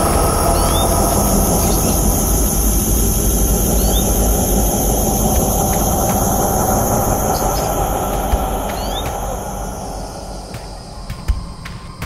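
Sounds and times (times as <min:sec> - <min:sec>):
canary chirp: 0:00.0 - 0:10.8
high hiss: 0:00.0 - 0:12.0
loud rumbling noise: 0:00.0 - 0:12.0.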